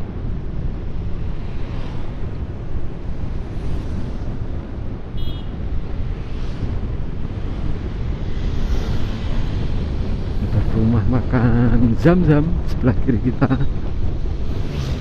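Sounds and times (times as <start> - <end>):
vehicle engine and tyres rumbling: 0.0 - 15.0
wind buffeting microphone: 0.0 - 15.0.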